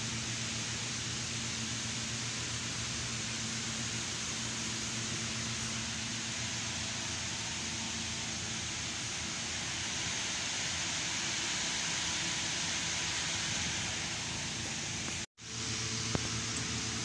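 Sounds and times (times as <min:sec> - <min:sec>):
fan-like mechanical whooshing: 0:00.0 - 0:17.0.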